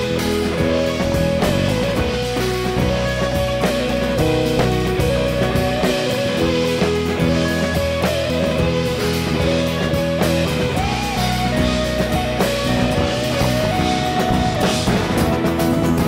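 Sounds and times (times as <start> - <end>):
rock band playing: 0.0 - 16.0
sliding lead melody: 0.0 - 16.0.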